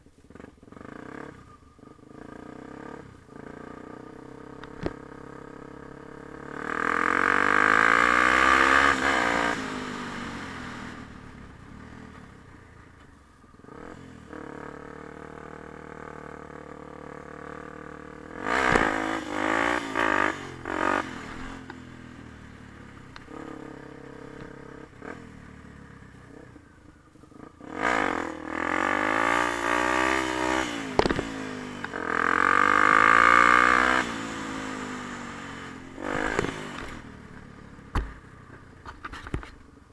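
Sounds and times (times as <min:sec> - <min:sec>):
dirt bike engine revving: 0:02.1 - 0:12.2, 0:13.7 - 0:38.3.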